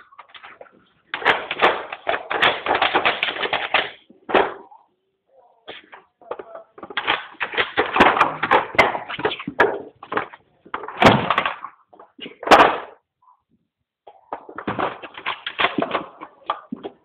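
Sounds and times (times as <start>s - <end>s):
plastic toy clattering on floor: 0.0s - 4.6s, 5.9s - 13.0s, 14.3s - 17.0s.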